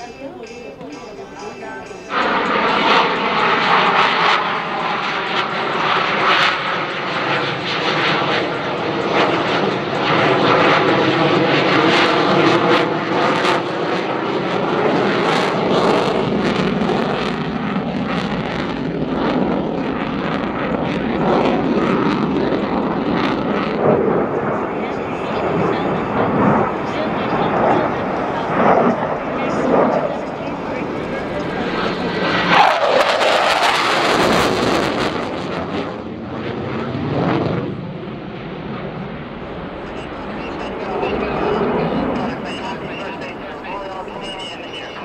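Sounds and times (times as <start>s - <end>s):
crackling jet noise: 0.0s - 45.0s
jet engine roar: 0.0s - 45.0s.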